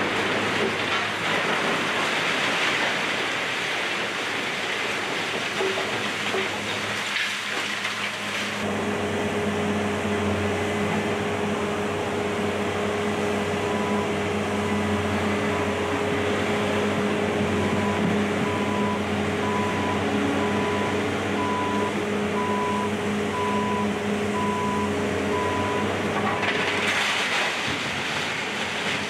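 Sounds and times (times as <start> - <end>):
excavator diesel engine humming: 5.5 - 29.0.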